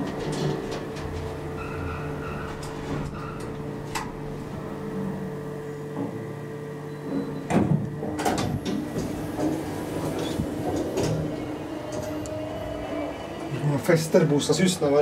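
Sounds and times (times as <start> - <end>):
elevator stopping clunks: 0.0 - 14.2
elevator car humming: 0.0 - 15.0
elevator doors sliding open: 0.0 - 15.0.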